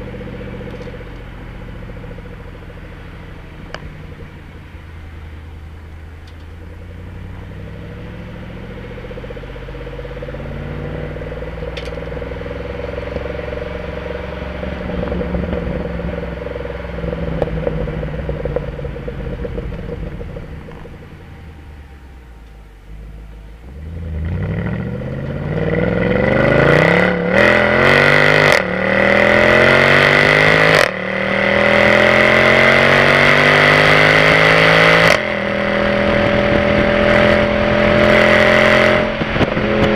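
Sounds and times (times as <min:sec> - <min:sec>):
car accelerating with upshifts: 0:00.0 - 0:39.9
car exhaust note: 0:00.0 - 0:39.9.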